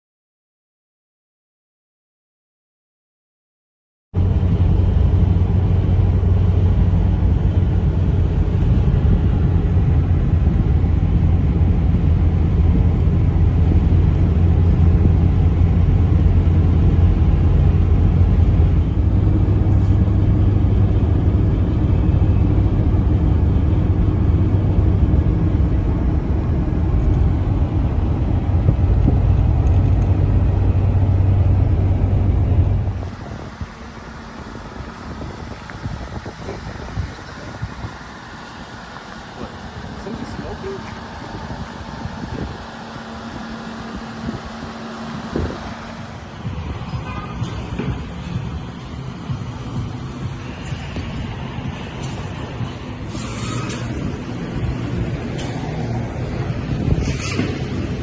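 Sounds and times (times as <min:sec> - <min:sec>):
pickup truck driving: 0:04.2 - 0:58.0.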